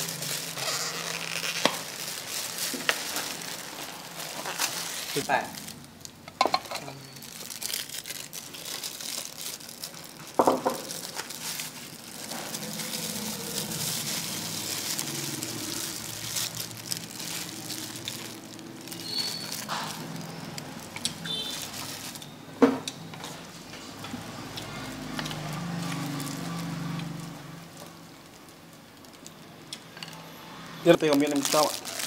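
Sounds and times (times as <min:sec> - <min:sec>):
street food stall background noise: 0:00.0 - 0:32.0.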